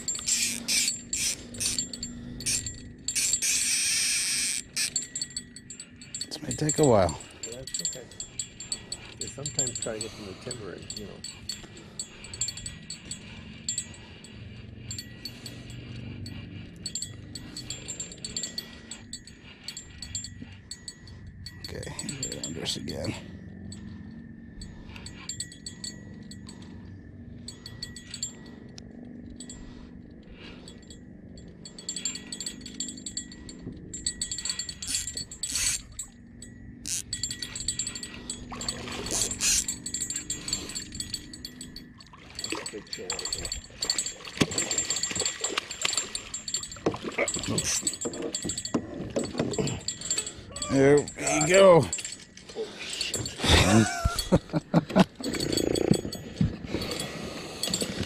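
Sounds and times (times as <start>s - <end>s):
small bell jingling: 0.0s - 58.0s.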